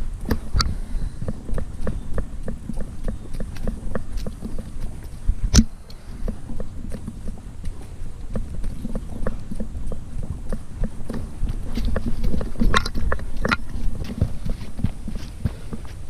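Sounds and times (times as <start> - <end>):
sharp clicks: 0.2 - 16.0.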